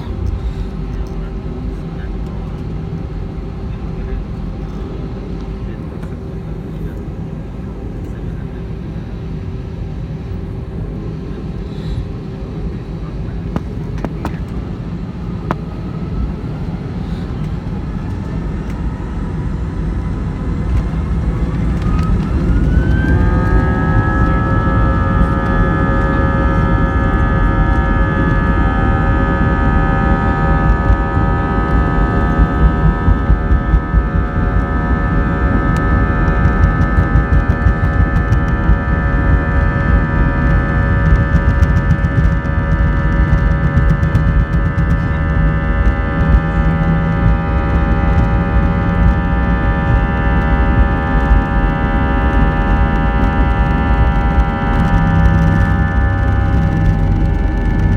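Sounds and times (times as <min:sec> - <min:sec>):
deep engine rumble: 0:00.0 - 0:57.9
jet engine whine: 0:00.0 - 0:57.9.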